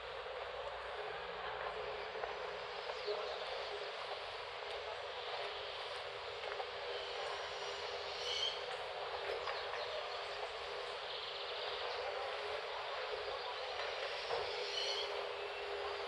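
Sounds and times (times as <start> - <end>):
hiss-like outdoor background noise: 0.0 - 16.0.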